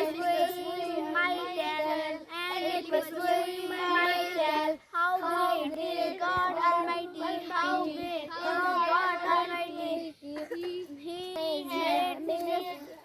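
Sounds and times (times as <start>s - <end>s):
children chanting in sing-song: 0.0s - 13.0s.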